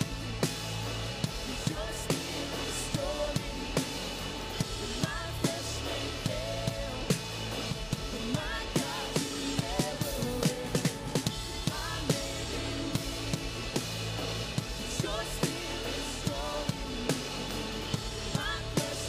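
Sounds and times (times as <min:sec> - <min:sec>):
drum kit beat: 0:00.0 - 0:19.0
live band music: 0:00.0 - 0:19.0
vocals singing: 0:00.0 - 0:19.0.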